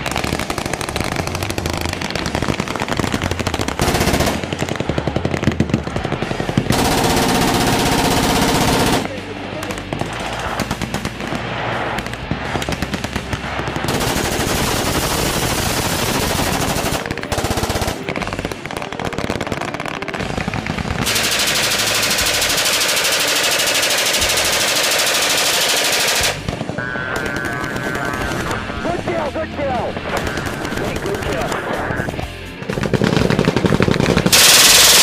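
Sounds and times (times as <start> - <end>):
machine gun automatic fire: 0.0 - 28.6, 30.1 - 31.6, 32.7 - 35.0.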